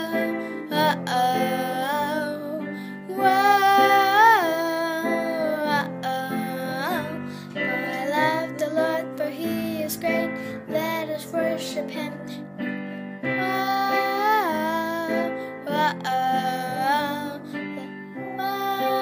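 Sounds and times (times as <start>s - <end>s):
girl singing: 0.0s - 19.0s
instrumental accompaniment: 0.0s - 19.0s.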